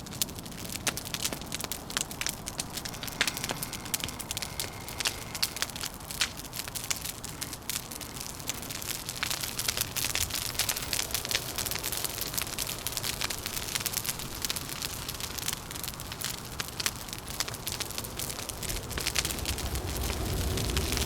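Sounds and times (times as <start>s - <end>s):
low rumble of wind: 0.0s - 21.0s
wood fire crackling and popping: 0.0s - 21.0s.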